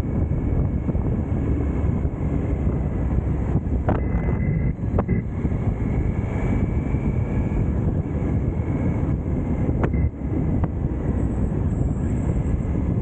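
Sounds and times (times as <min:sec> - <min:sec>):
motorcycle engine cruising: 0:00.0 - 0:13.0
wind noise on microphone: 0:00.0 - 0:13.0.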